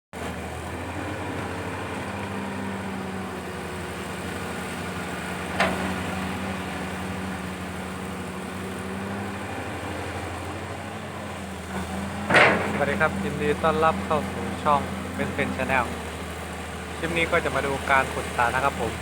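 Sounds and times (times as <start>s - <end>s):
excavator diesel engine running: 0.2s - 19.0s.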